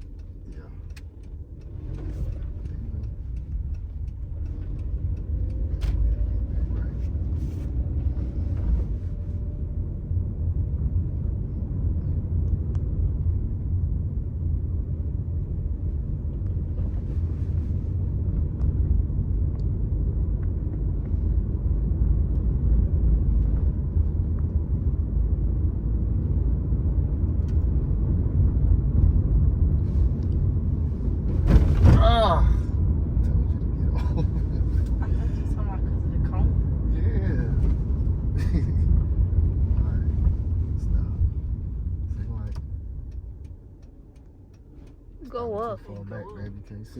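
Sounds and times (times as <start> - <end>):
car driving rumble inside cabin: 0.0 - 46.9.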